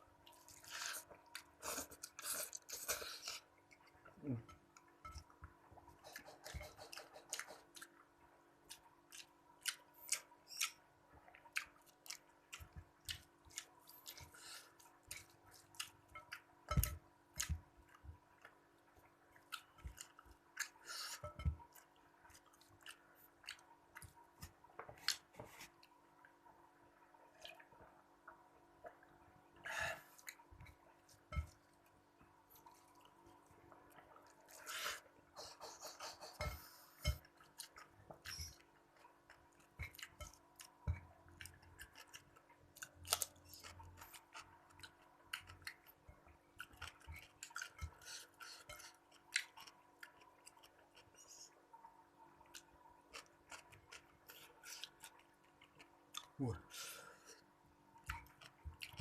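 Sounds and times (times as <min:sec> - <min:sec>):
faint steady hum: 0:00.0 - 0:59.0
person chewing: 0:00.2 - 0:04.4, 0:06.0 - 0:08.0, 0:08.7 - 0:18.6, 0:19.3 - 0:25.9, 0:32.5 - 0:51.5, 0:52.4 - 0:57.4, 0:58.0 - 0:59.0.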